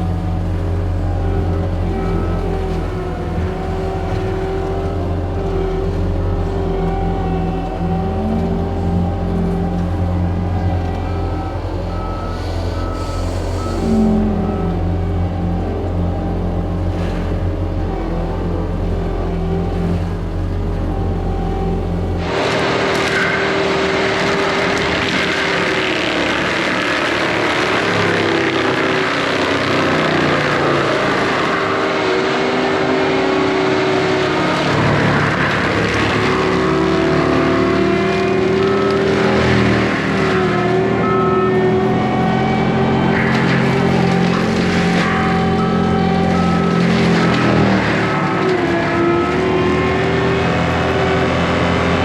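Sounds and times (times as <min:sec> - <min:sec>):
diesel engine running: 0:00.0 - 0:52.0
mulching head grinding: 0:00.0 - 0:52.0.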